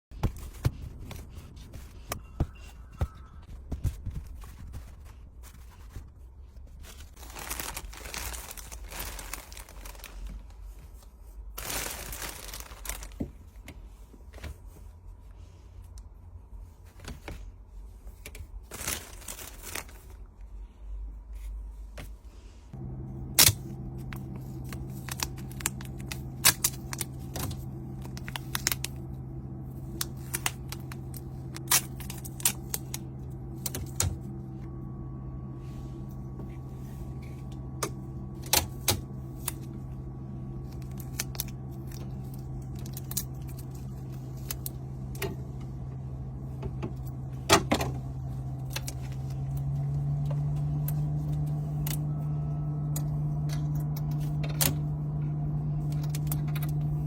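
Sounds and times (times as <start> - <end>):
steady low hum: 0.1 - 57.0.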